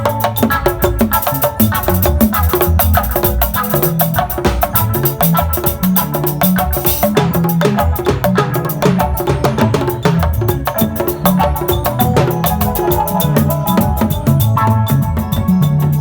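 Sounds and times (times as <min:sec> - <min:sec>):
loud music with busy percussion: 0:00.0 - 0:16.0.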